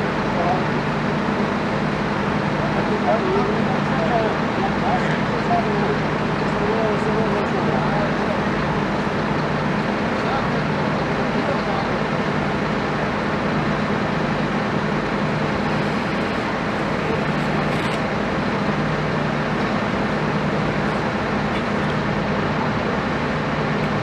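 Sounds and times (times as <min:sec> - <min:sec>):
heavy engine running steadily: 0:00.0 - 0:24.0.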